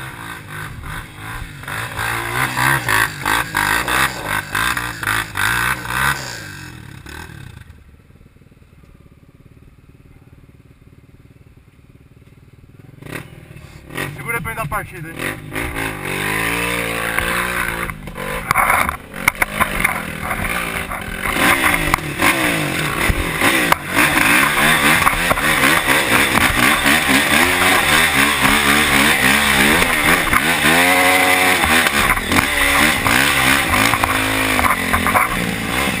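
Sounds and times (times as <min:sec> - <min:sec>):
dirt bike engine revving: 0:00.0 - 0:07.8, 0:12.8 - 0:36.0.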